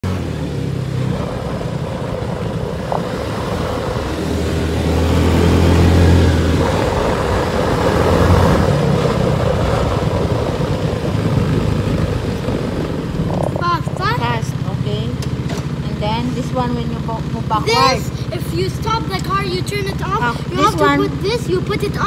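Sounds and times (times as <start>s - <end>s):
car engine hum from inside: 0.0s - 22.0s.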